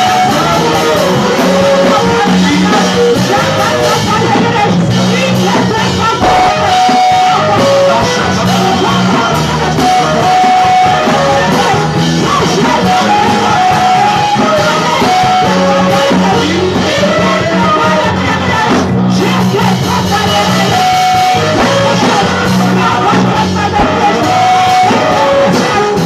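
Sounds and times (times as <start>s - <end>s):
song with singing over guitar: 0.0s - 26.0s
steady bass line: 0.0s - 26.0s.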